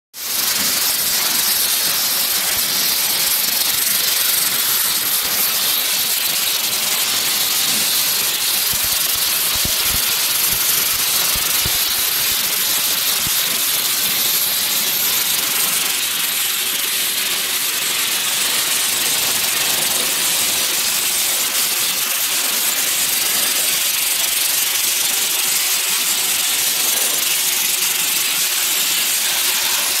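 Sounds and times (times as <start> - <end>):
sandblaster hissing: 0.2 - 30.0.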